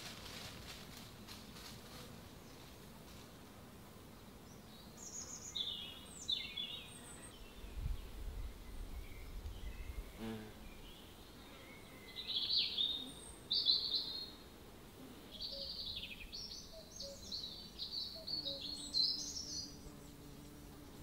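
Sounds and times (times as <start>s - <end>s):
songbird singing: 4.2s - 21.0s.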